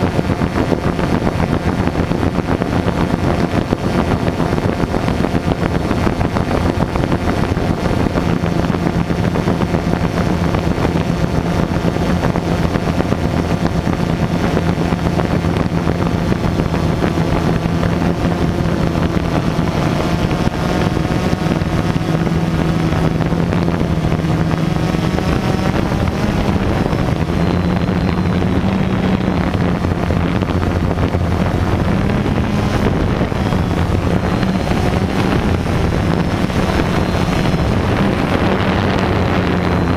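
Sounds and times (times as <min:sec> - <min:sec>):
drone propellers humming: 0:00.0 - 0:39.9
wind on microphone: 0:00.0 - 0:39.9.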